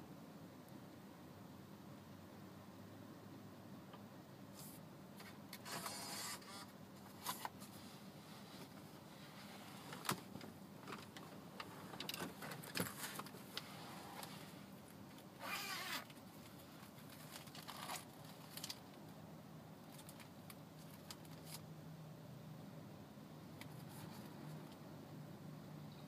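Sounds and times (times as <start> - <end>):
faint steady low hum: 0.0 - 26.0.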